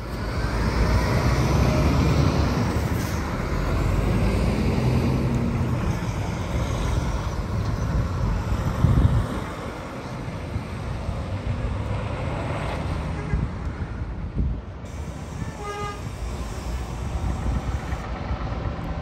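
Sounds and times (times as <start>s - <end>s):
diesel lorry engine running: 0.0s - 11.8s, 14.2s - 19.0s.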